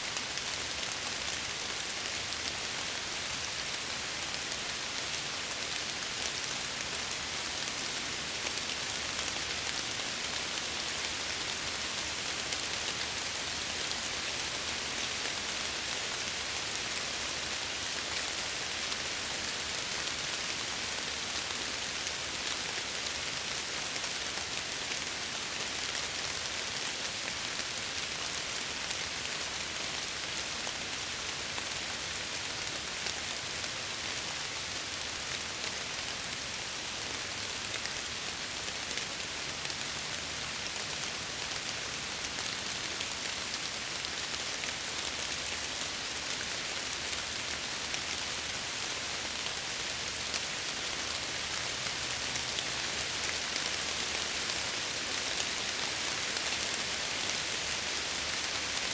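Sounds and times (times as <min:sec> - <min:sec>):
rain falling: 0:00.1 - 0:58.9.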